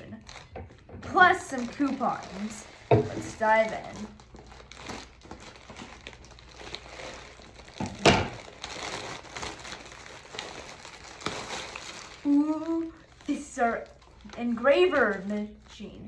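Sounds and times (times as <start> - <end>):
plastic bag crinkling: 0.0 - 16.0
sharp plastic crackle: 0.0 - 16.0.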